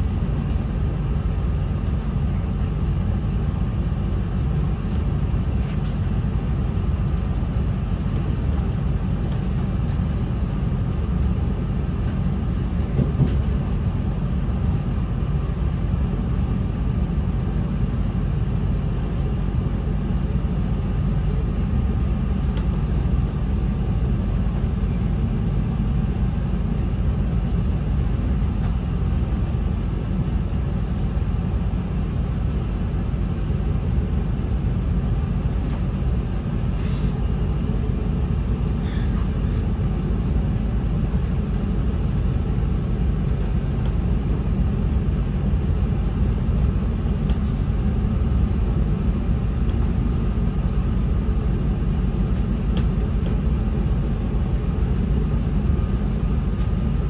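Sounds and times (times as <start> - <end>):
train engine rumble inside cabin: 0.0 - 57.0.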